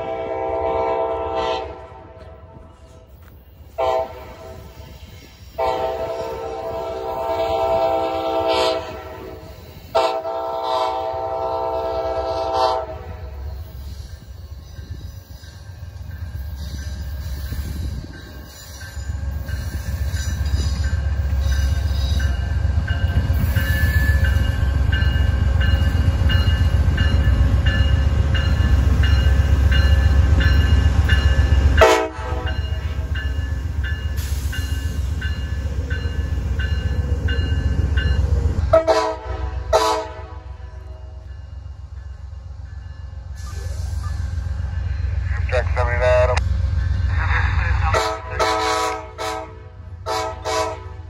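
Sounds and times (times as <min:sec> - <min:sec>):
diesel train passing rumble: 0:00.0 - 0:51.0.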